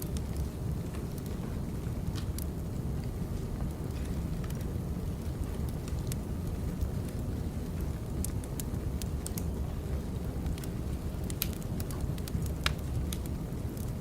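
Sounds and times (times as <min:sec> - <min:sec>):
firewood crackling: 0:00.0 - 0:14.0
low rumble of flames: 0:00.0 - 0:14.0.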